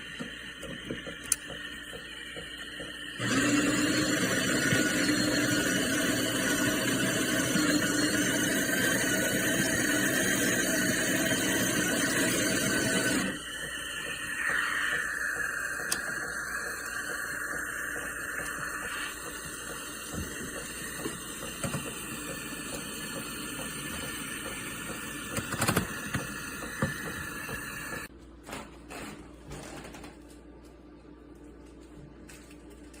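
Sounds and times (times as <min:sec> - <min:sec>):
espresso machine whirring: 0:00.0 - 0:28.1.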